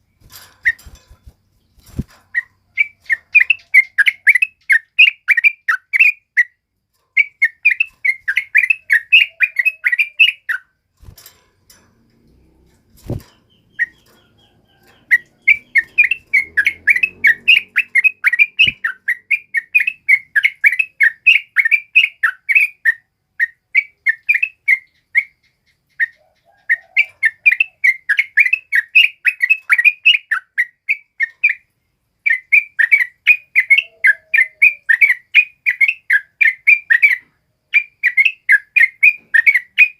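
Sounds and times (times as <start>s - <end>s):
bird chattering song: 0.0s - 6.6s, 7.2s - 10.7s, 12.2s - 31.7s, 32.3s - 39.9s.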